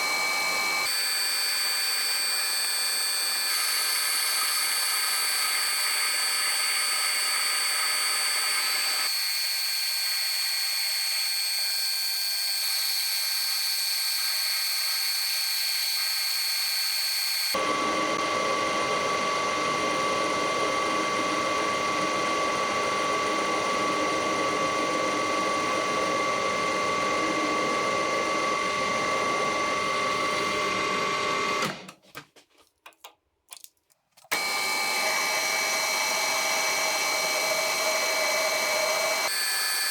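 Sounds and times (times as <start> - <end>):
metal lathe whine: 0.0 - 31.6, 34.3 - 39.9.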